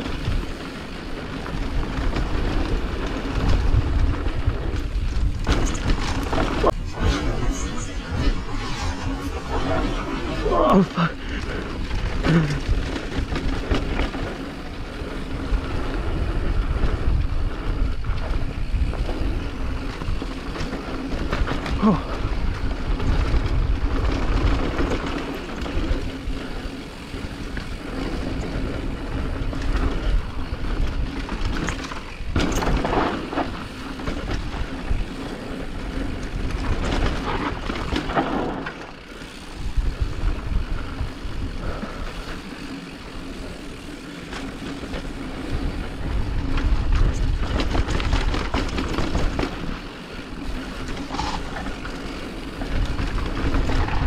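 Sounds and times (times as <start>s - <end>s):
wind buffeting microphone: 1.6s - 37.9s, 39.3s - 42.7s, 44.9s - 54.0s.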